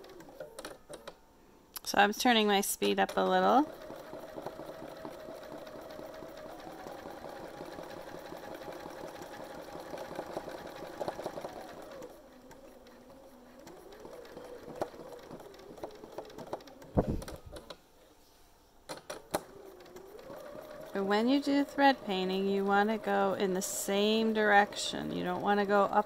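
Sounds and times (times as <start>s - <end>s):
sewing machine running: 0.0s - 0.8s, 2.2s - 17.7s, 19.3s - 26.0s.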